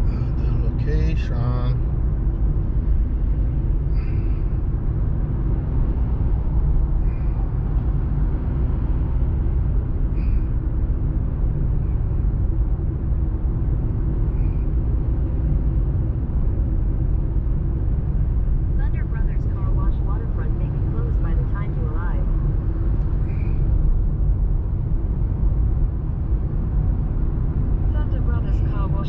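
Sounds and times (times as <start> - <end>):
car interior rumble: 0.0 - 29.0.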